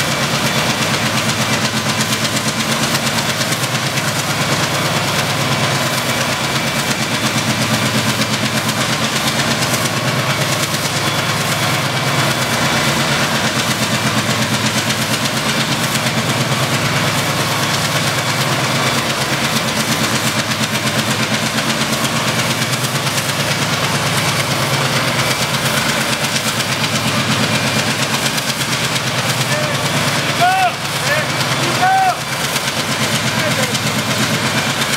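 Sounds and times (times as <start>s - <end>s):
diesel locomotive engine running: 0.0s - 34.9s.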